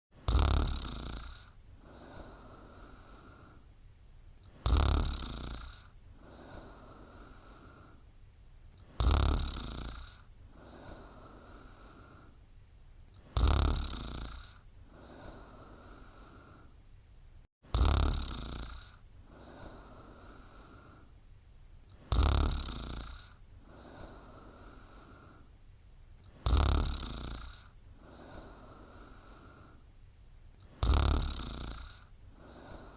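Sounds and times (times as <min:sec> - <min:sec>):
rhythmic snoring: 0:00.1 - 0:03.7, 0:04.4 - 0:08.1, 0:08.8 - 0:12.4, 0:13.1 - 0:16.8, 0:17.6 - 0:21.2, 0:21.9 - 0:25.5, 0:26.2 - 0:29.9, 0:30.6 - 0:32.9.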